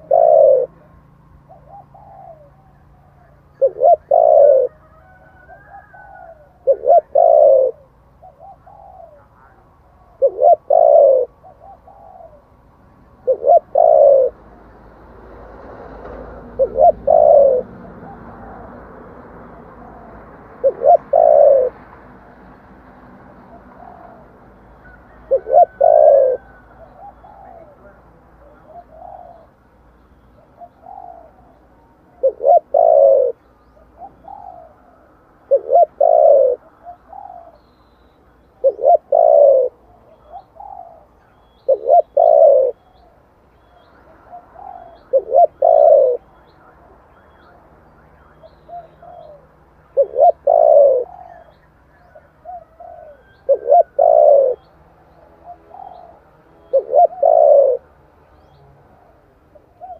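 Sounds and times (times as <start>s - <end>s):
dove cooing: 0.0s - 14.7s, 15.8s - 22.4s, 23.2s - 59.9s.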